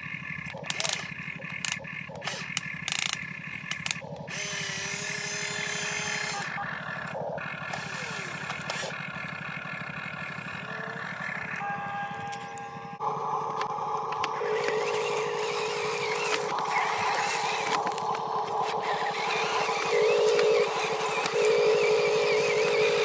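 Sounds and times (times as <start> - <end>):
servo whines and clicks: 0.0 - 9.4, 11.0 - 23.0
pump motor humming: 0.0 - 23.0.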